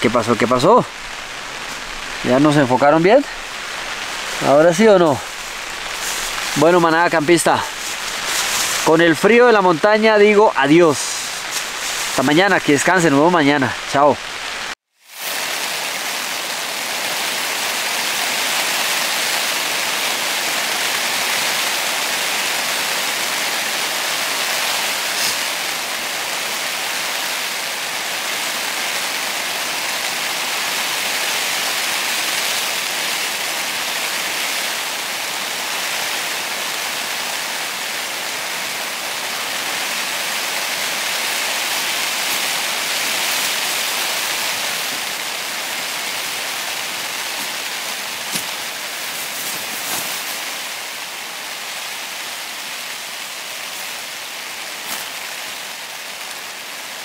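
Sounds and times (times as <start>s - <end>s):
rain on tent fabric: 0.0s - 57.0s.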